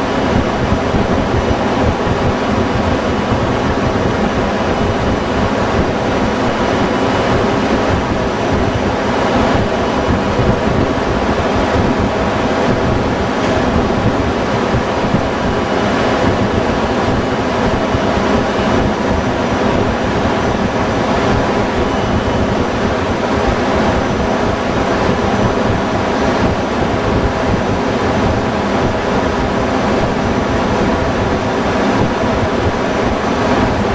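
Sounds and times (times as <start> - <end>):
engine-room machinery drone: 0.0 - 33.9.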